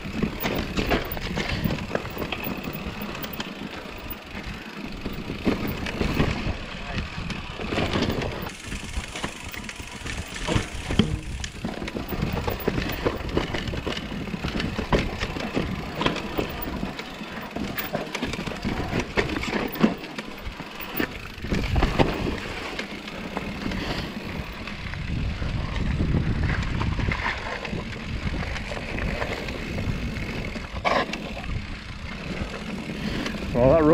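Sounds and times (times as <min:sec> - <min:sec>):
bike rattling and clicking: 0:00.0 - 0:33.9
bike tyres crunching on dirt: 0:00.0 - 0:33.9.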